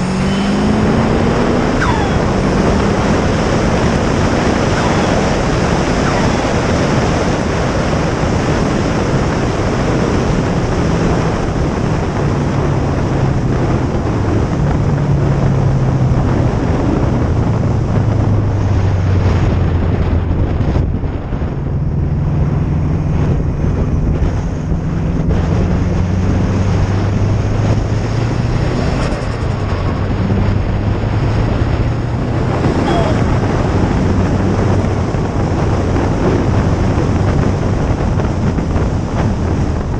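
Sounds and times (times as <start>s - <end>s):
car engine revving: 0.0s - 39.9s
wind and road noise: 0.0s - 39.9s.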